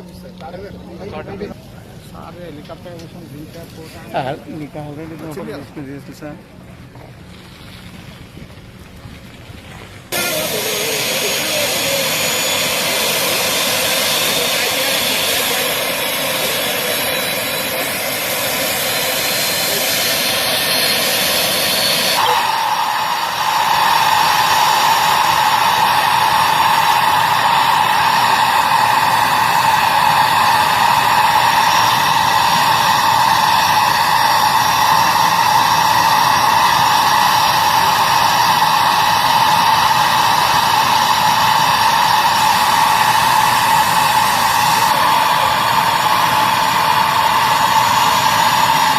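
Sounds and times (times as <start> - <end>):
helicopter turbine and rotor drone: 0.0 - 7.0, 10.1 - 48.9.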